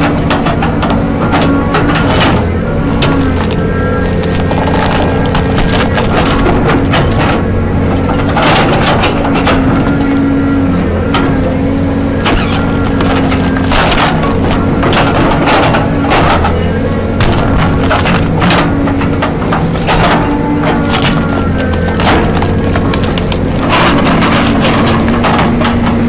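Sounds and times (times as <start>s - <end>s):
heavy machine engine running: 0.0s - 26.0s
wood cracking and splintering: 0.0s - 26.0s.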